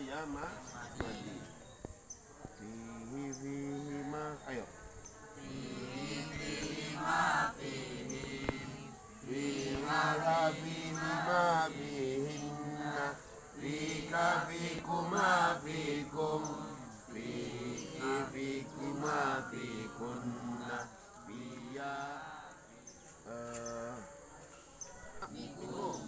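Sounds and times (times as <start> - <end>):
boys chanting together: 0.0 - 1.8, 2.4 - 24.4, 25.0 - 26.0.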